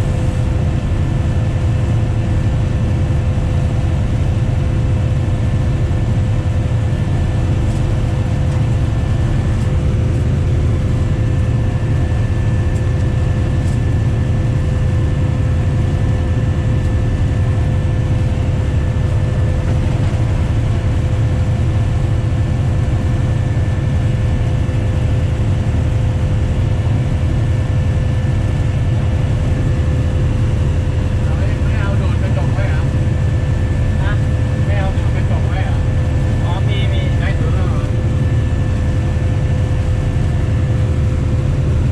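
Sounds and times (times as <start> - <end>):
train engine rumble: 0.0 - 41.9.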